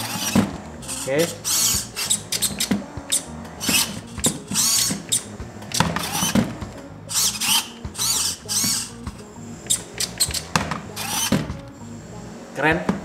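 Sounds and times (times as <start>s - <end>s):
servos whirring: 0.0s - 13.0s.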